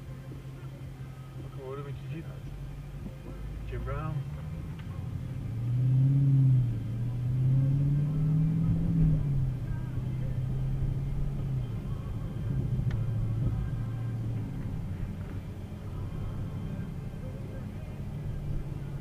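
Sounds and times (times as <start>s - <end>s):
car engine: 0.0s - 19.0s
road rumble: 0.0s - 19.0s.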